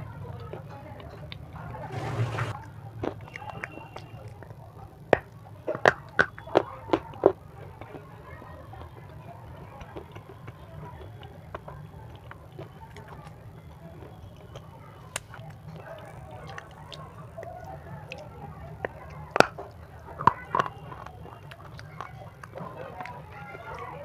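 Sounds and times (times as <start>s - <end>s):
gritty chewing crackles: 0.0s - 1.8s, 2.5s - 24.0s.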